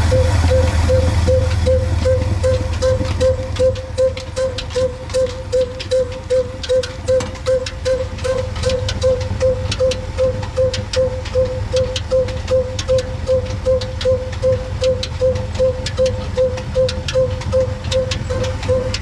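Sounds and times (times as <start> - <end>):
diesel engine pulsing hum: 0.0 - 19.0
sharp ticks: 0.0 - 19.0.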